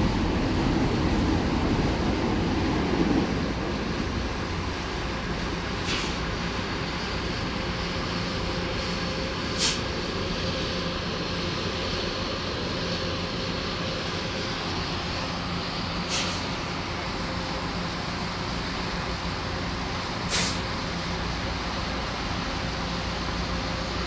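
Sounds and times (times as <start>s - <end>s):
rail grinding train running: 0.0s - 24.0s.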